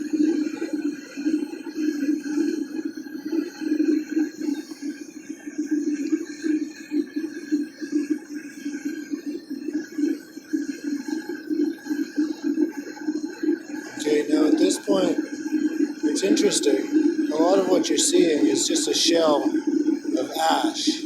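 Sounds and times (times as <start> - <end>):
furnace fluttering drone: 0.0 - 21.0.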